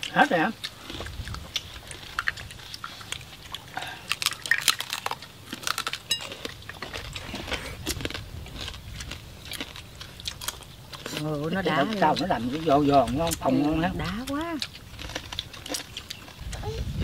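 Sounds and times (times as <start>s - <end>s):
people chewing crisp pork skin: 0.0s - 17.0s.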